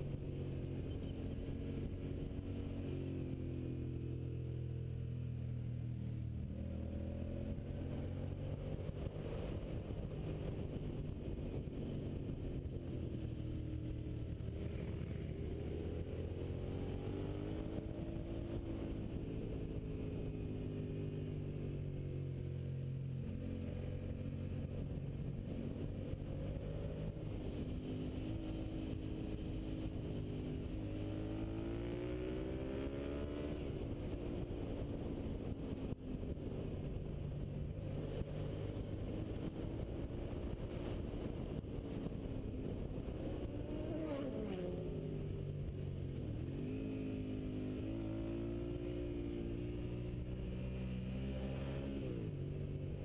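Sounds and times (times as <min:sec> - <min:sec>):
motorcycle engine revving: 0:06.6 - 0:35.9, 0:36.5 - 0:53.0.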